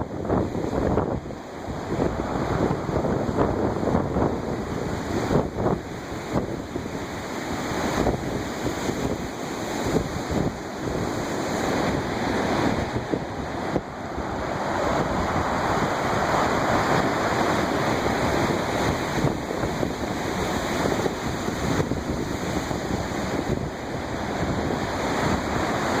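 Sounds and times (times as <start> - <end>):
waves breaking on shore: 0.0 - 26.0
wind buffeting microphone: 0.0 - 26.0.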